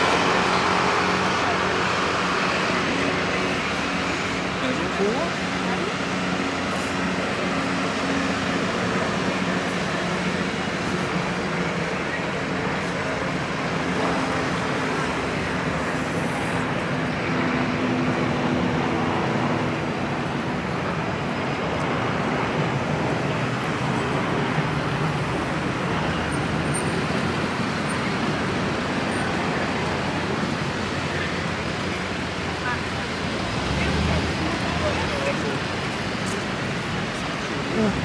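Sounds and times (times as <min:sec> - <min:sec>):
road traffic passing: 0:00.0 - 0:38.0.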